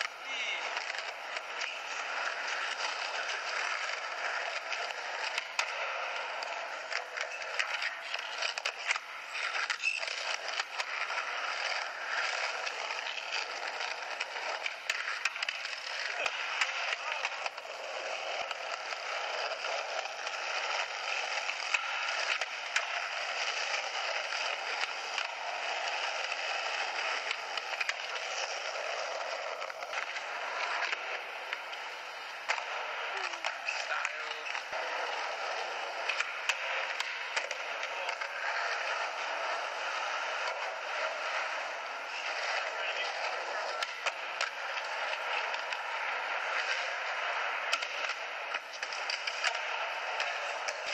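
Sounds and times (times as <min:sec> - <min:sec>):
skateboard clicks and knocks: 0:00.0 - 0:50.9
skateboard wheels rolling on concrete: 0:00.0 - 0:50.9.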